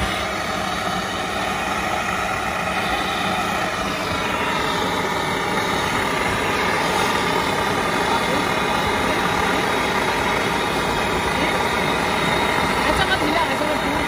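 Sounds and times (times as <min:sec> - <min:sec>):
steady mechanical drone: 0:00.0 - 0:14.0.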